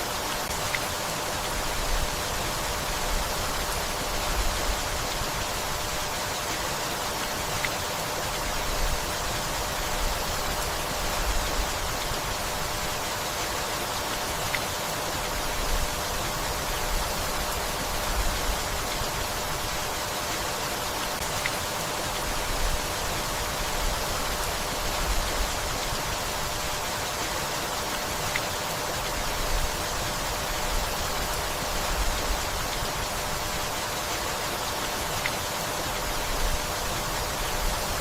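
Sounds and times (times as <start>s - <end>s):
gentle rainfall: 0.0s - 38.0s.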